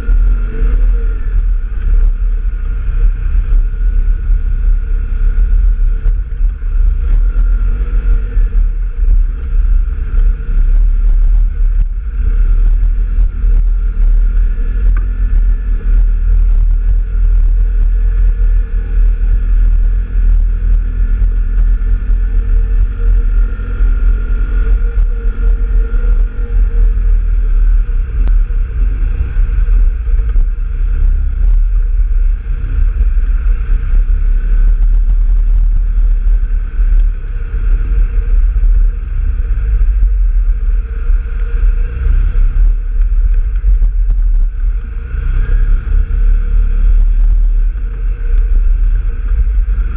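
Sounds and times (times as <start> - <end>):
off-road vehicle engine running: 0.0 - 49.9.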